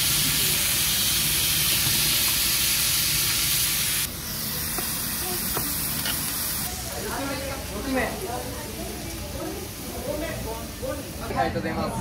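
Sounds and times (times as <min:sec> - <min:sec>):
food sizzling on hot plate: 0:00.0 - 0:11.4
food stir-frying in a wok: 0:00.0 - 0:11.6.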